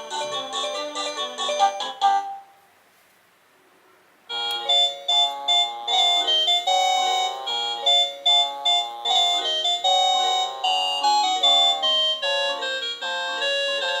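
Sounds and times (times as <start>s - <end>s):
electronic doorbell chime: 0.0s - 2.5s, 4.3s - 14.0s.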